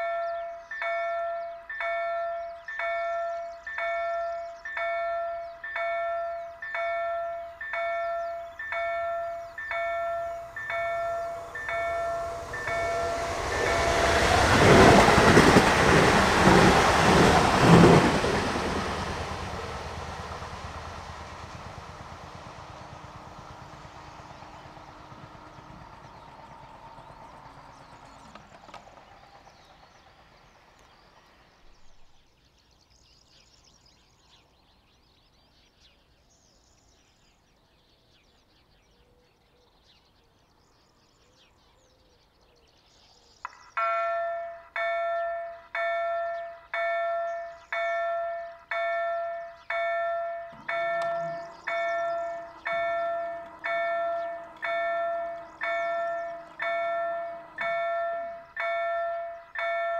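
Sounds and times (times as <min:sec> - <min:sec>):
train wheel clatter: 0:00.0 - 0:32.1, 0:43.4 - 0:59.9
electric train rushing past: 0:00.0 - 0:32.4, 0:43.4 - 0:59.9.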